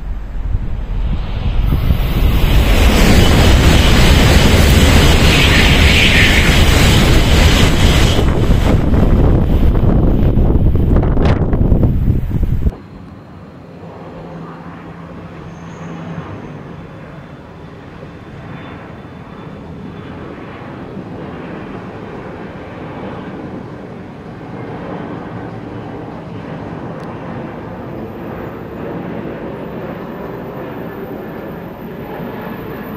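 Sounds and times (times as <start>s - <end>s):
jet airliner engine rush: 0.0s - 32.9s.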